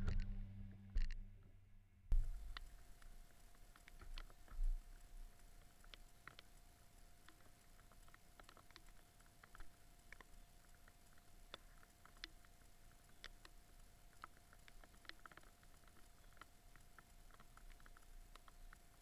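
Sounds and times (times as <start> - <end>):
faint steady whine: 0.0 - 19.0
faint raindrops tapping: 2.1 - 19.0.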